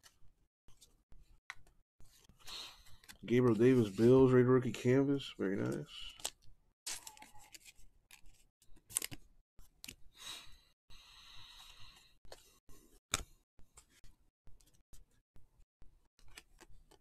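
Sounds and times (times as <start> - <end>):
trading cards clicking and sliding: 0.0 - 10.0, 11.6 - 15.2, 16.1 - 17.0.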